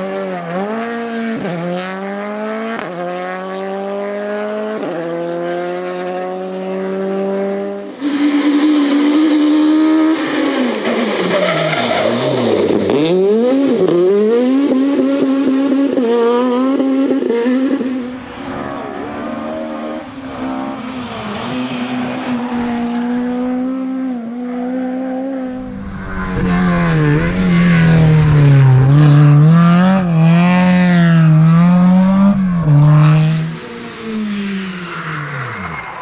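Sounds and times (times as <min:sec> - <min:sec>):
rally car engine at full throttle: 0:00.0 - 0:36.0.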